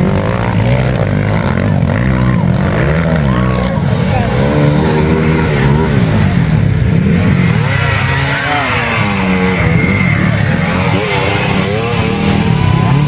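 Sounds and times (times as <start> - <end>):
dirt bike engines racing: 0.0 - 13.0.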